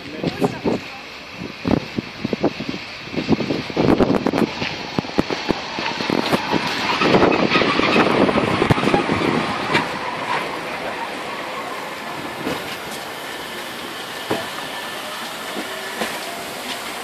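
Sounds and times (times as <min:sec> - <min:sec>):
steam locomotive rolling past: 0:00.0 - 0:17.0
steam hiss: 0:00.5 - 0:17.0
wheels knocking and clanking: 0:02.6 - 0:17.0.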